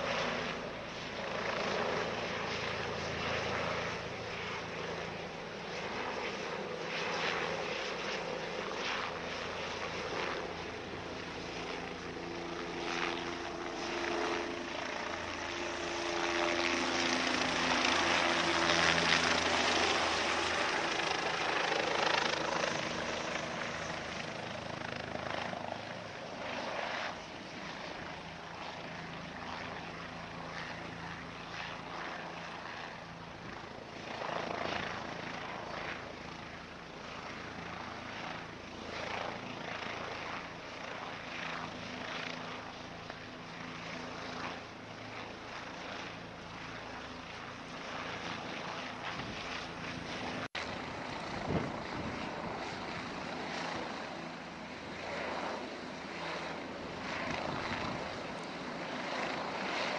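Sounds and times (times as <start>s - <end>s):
helicopter rotor and engine: 0.0s - 59.9s.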